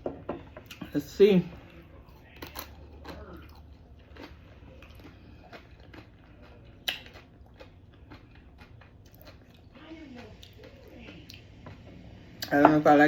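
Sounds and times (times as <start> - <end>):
person chewing: 1.6 - 12.7.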